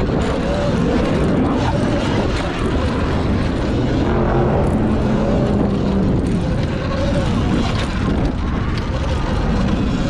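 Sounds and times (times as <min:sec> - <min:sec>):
steady engine tone: 0:00.0 - 0:10.0
wind rushing over microphone: 0:00.0 - 0:10.0.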